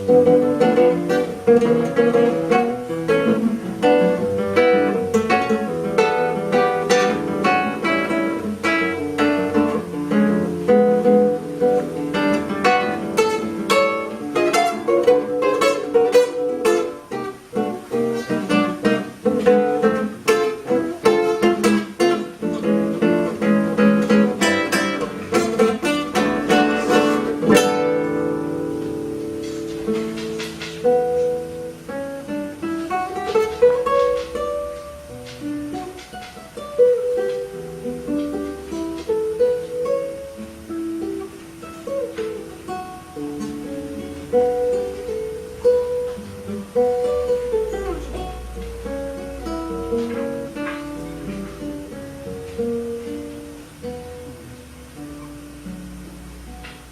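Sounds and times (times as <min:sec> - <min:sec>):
classical guitar jazz piece: 0:00.0 - 0:56.9.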